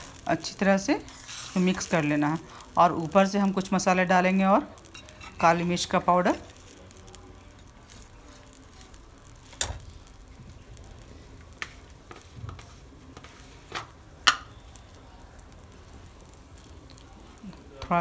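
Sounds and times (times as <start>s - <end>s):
thick stew simmering: 0.0s - 18.0s.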